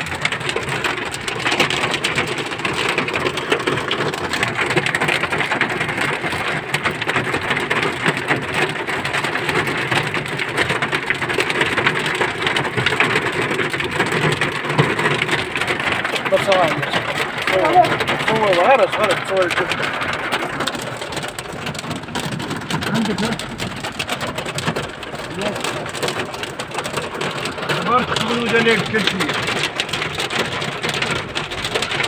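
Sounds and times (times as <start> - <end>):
heavy rain on hard surface: 0.0 - 32.0.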